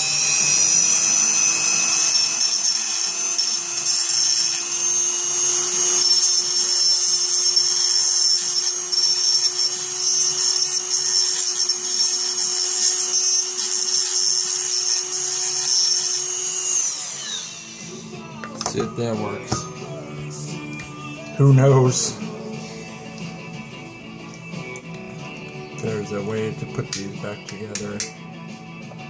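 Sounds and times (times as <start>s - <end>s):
power tool grinding metal: 0.0s - 28.1s.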